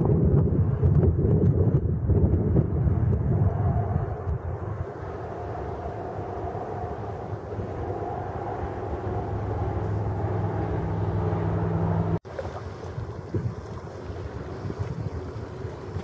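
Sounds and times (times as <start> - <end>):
wind on microphone: 0.0 - 16.0
distant engine drone: 2.4 - 16.0.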